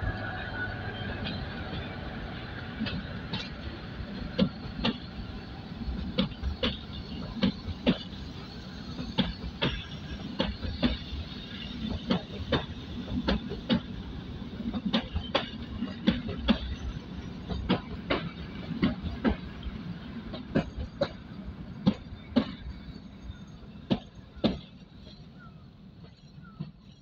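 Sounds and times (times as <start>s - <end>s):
low rumble of rolling coaches: 0.0s - 27.0s
train wheels clicking over rail joints: 0.1s - 27.0s.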